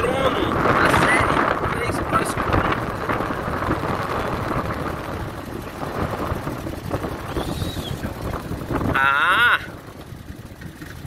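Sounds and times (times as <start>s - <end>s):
buggy engine running: 0.0s - 11.0s
wind buffeting microphone: 0.0s - 11.0s.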